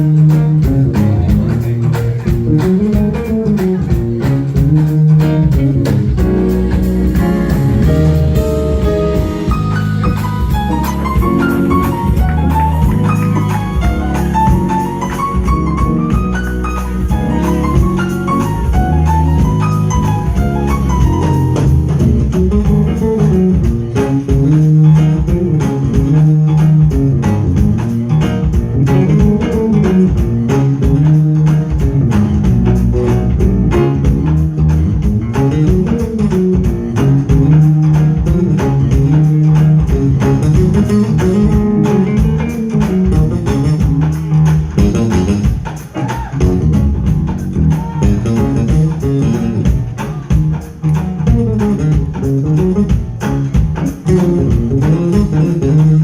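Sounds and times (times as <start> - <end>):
drum kit beat: 0.0 - 56.0
electric guitar melody: 0.0 - 56.0
repeating bass guitar line: 0.0 - 56.0.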